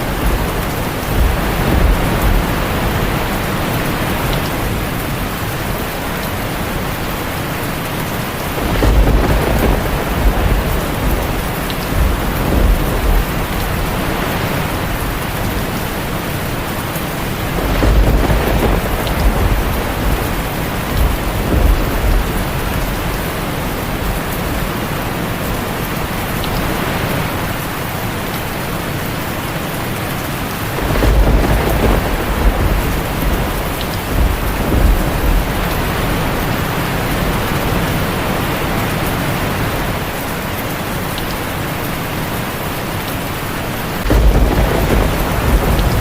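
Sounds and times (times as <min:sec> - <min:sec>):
thunder rumbling: 0:00.0 - 0:27.6, 0:30.4 - 0:40.1, 0:43.8 - 0:46.0
heavy rain on a tin roof: 0:00.0 - 0:46.0.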